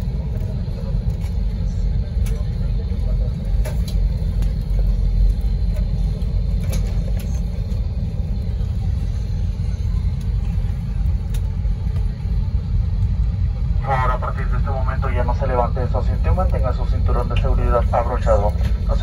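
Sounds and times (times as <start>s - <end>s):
airliner cabin low rumble: 0.0s - 19.0s.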